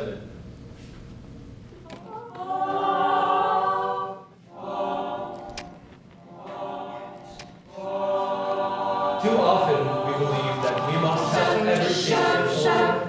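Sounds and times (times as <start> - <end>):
choir singing held chords: 1.9 - 13.0.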